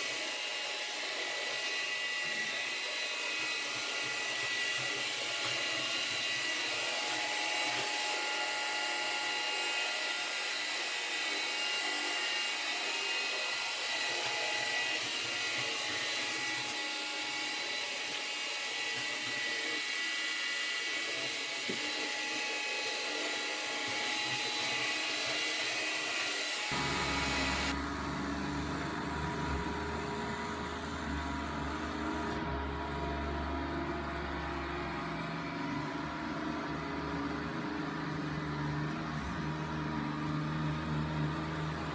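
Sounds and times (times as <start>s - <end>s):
robot vacuum cleaner whine: 0.0s - 41.9s.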